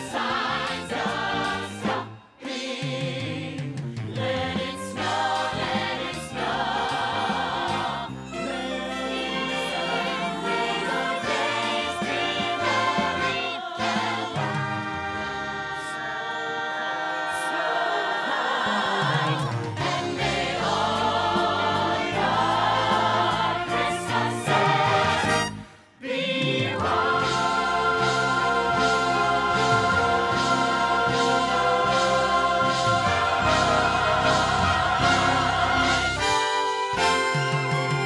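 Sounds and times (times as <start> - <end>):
choir singing with music: 0.0 - 38.0.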